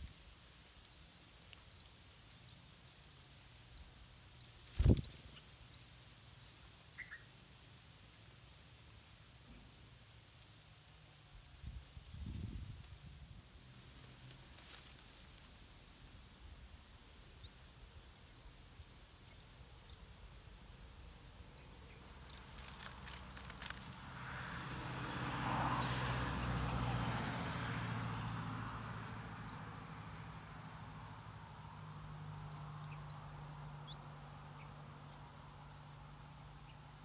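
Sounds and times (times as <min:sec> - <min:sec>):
baby bird peeping: 0:00.0 - 0:07.3, 0:13.8 - 0:37.0
low rumble and hiss: 0:00.0 - 0:37.0.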